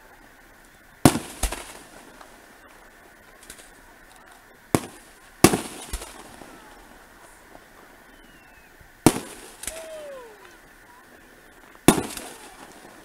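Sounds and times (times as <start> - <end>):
fireworks shells bursting: 0.0 - 13.0.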